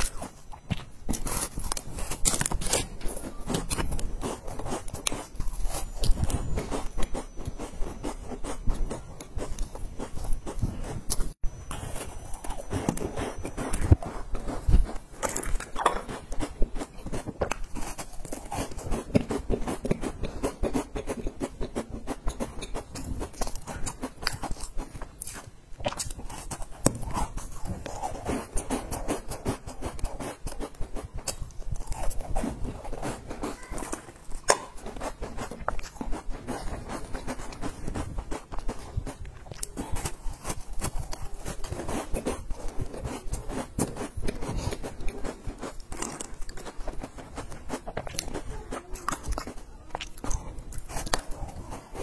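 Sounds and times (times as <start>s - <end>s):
crunching and chewing cookies: 0.0s - 52.0s.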